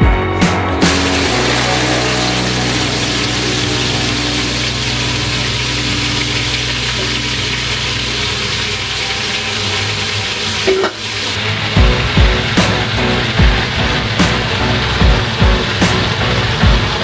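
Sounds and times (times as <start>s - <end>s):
meat sizzling in oil: 0.8s - 17.0s.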